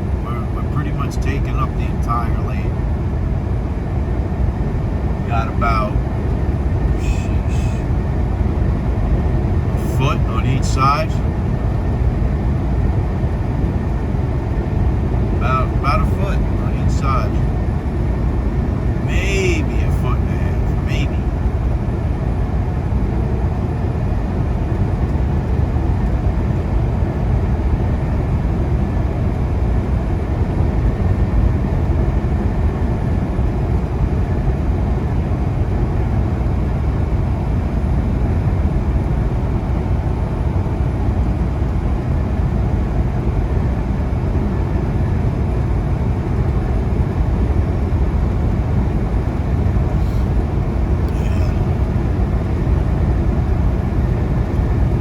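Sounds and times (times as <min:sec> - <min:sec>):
truck engine and tyres droning: 0:00.0 - 0:55.0.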